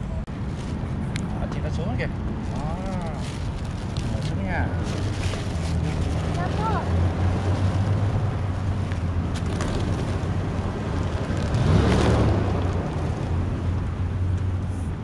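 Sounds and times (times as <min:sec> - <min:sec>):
traffic engine hum: 0:00.0 - 0:15.0
vehicle passing by: 0:01.3 - 0:15.0.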